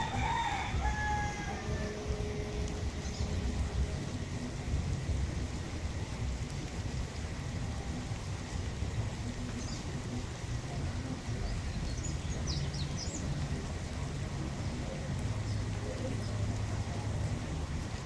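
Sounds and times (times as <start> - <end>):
low rumble: 0.0 - 18.0
steady rain falling: 0.0 - 18.0.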